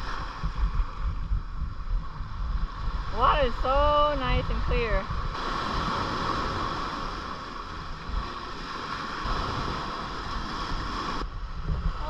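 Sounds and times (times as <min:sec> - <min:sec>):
water lapping around kayak: 0:00.0 - 0:12.0
wind rumbling on microphone: 0:00.0 - 0:12.0.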